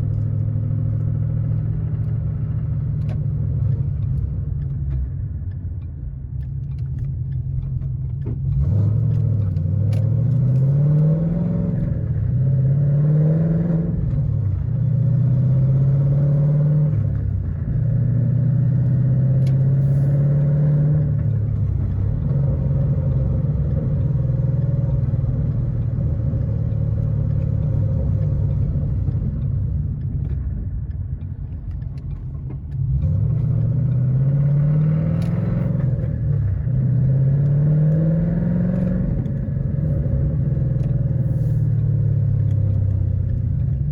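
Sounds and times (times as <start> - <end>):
car engine revving: 6.9 - 43.9.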